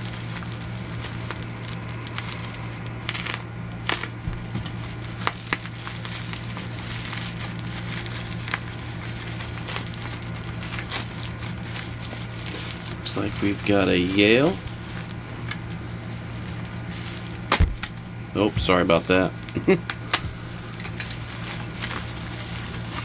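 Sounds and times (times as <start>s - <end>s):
packaging crinkling: 0.0s - 23.0s
steady low hum: 0.0s - 23.0s.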